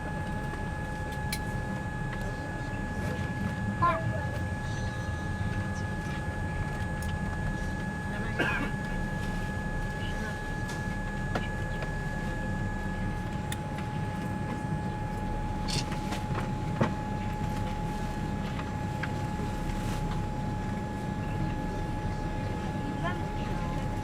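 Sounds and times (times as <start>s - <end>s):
low rumble of air and engines: 0.0s - 24.0s.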